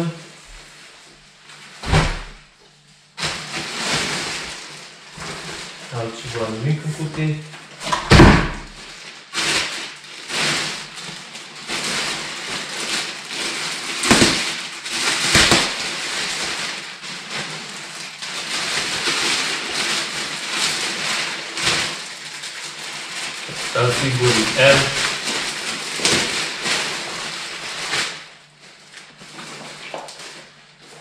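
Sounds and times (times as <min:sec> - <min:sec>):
packaging rustling and crinkling: 0:00.0 - 0:07.9, 0:08.6 - 0:31.0.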